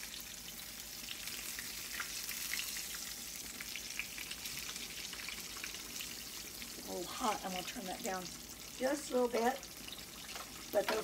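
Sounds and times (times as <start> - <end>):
crackles and pops of frying: 0.0 - 11.0
oil sizzling in a skillet: 0.0 - 11.0.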